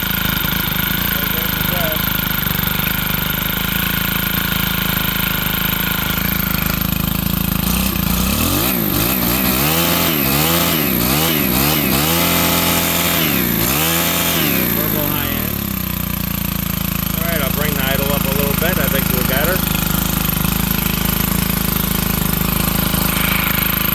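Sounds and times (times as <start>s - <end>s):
pole saw engine revving: 0.0s - 23.9s.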